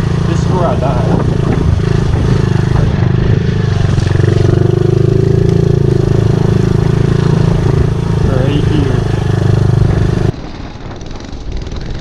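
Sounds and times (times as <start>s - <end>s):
small motorbike engine revving: 0.0s - 12.0s.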